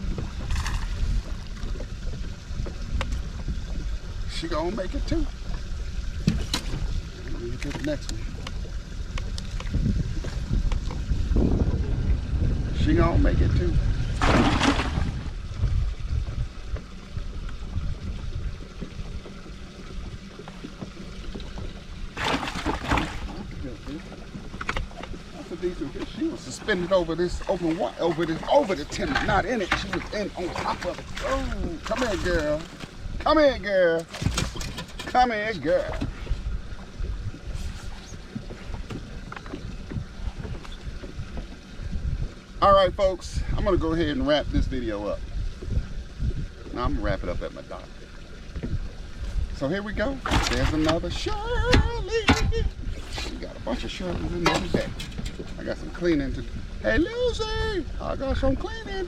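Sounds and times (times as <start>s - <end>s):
water lapping around boat: 0.0s - 59.0s
wind rumbling on microphone: 0.0s - 59.0s.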